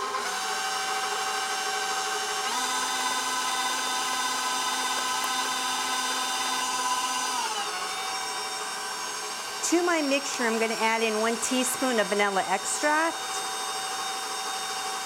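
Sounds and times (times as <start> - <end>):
stand mixer motor whining: 0.0 - 15.0.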